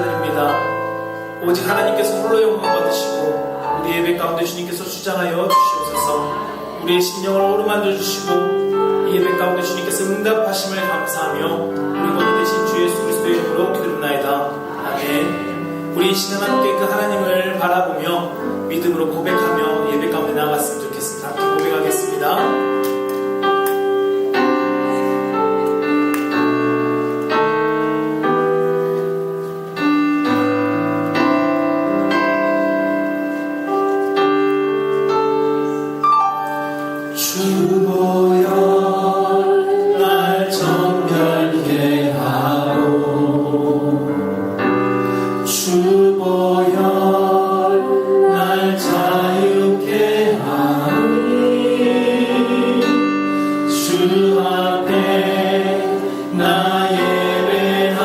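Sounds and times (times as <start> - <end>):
congregation singing: 0.0 - 29.4, 35.6 - 58.0
keyboard chords: 0.0 - 58.0.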